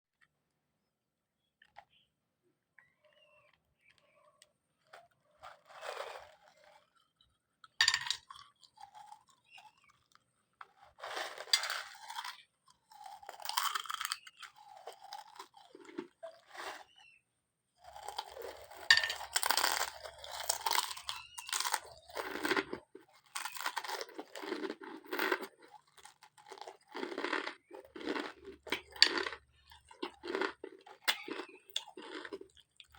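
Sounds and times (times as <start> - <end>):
chips crunching and chewing: 4.8 - 17.0, 17.8 - 32.9.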